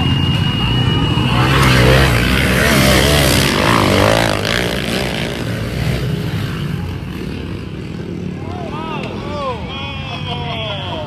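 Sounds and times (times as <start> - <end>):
pit bike engines revving: 0.0 - 11.0.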